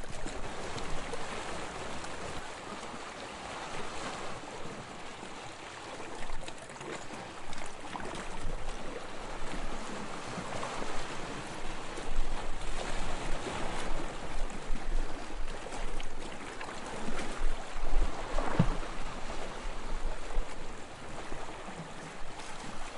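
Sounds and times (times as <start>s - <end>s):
sea water splashing and lapping: 0.0s - 22.9s.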